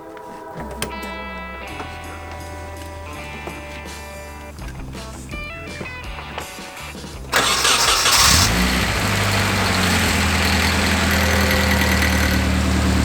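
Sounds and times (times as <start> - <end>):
car engine starting and idling: 0.6 - 6.2, 7.3 - 13.0.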